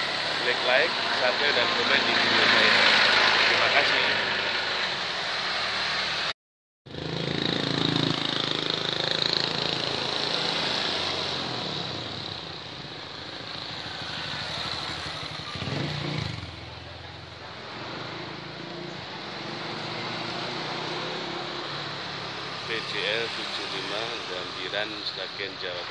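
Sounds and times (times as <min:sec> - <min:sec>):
motorcycles passing: 0:00.0 - 0:06.3, 0:06.9 - 0:25.9.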